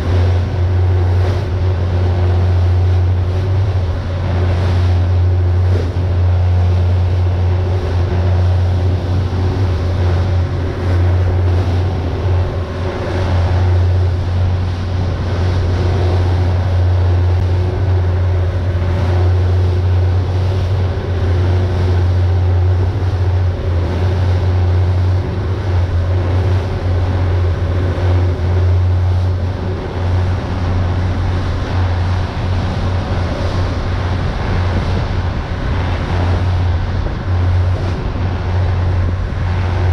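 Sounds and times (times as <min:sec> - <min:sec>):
boat engines droning: 0:00.0 - 0:39.9
higher engine tones: 0:00.0 - 0:39.9.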